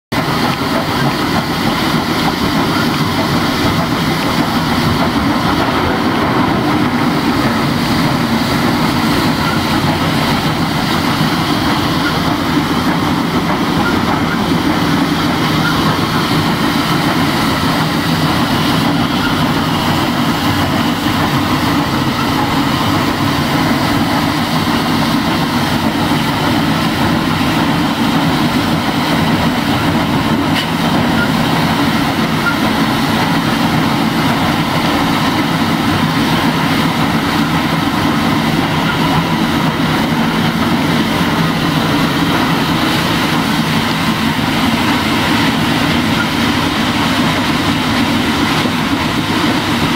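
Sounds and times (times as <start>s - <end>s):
steam locomotive din: 0.1s - 49.9s.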